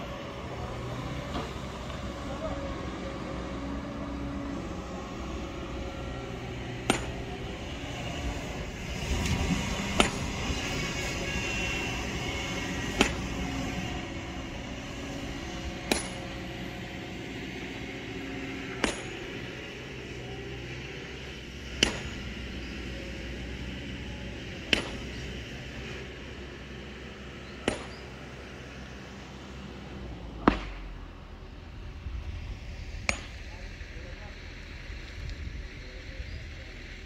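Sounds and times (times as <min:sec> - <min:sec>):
heavy machine engine hum: 0:00.0 - 0:37.0.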